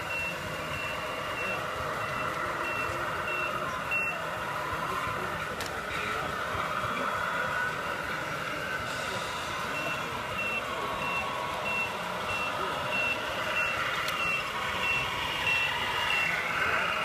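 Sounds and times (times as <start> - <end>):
high reversing beeps: 0.0 - 5.0, 7.7 - 17.0
steady background noise: 0.0 - 17.0.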